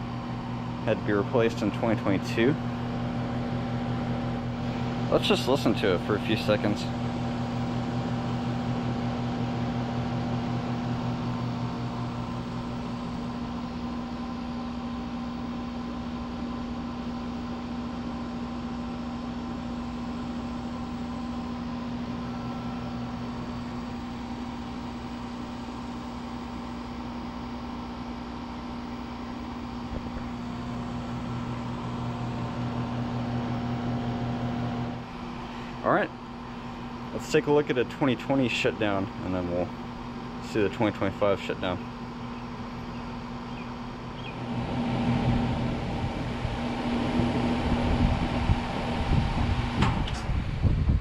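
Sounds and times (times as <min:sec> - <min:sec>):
compressor hum: 0:00.0 - 0:51.0
condenser fan rushing: 0:00.0 - 0:51.0.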